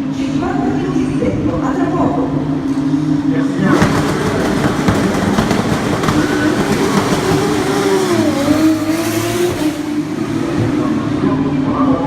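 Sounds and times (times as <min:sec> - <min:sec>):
race car engines at speed: 0:00.0 - 0:12.0.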